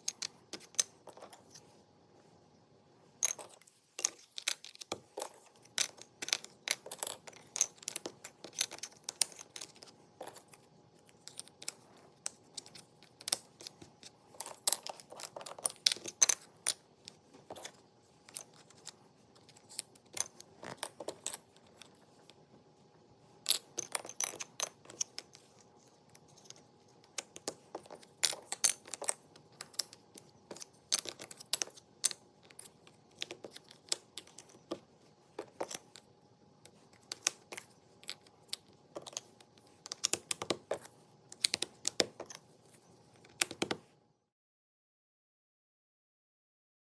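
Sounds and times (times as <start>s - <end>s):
puzzle pieces clicking and tapping: 0.0s - 1.6s, 3.2s - 22.0s, 23.4s - 25.6s, 26.2s - 34.8s, 35.4s - 36.1s, 36.7s - 42.4s, 43.2s - 43.8s.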